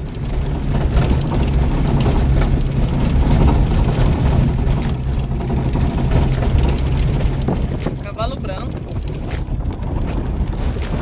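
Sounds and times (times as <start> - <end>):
car engine running: 0.0 - 11.0
knocks and rattles: 0.0 - 11.0
tyre and road noise: 0.0 - 11.0.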